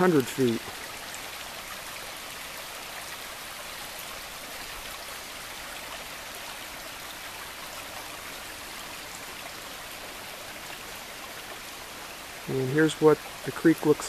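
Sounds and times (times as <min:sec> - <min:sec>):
creek flowing: 0:00.0 - 0:14.0.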